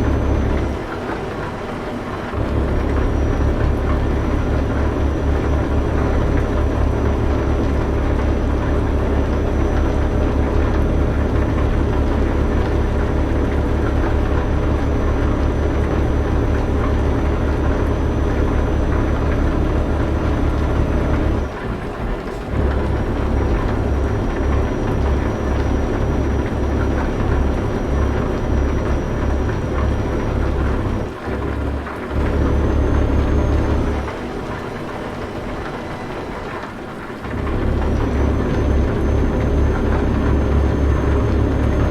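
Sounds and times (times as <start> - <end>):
truck engine rumbling: 0.0 - 41.9.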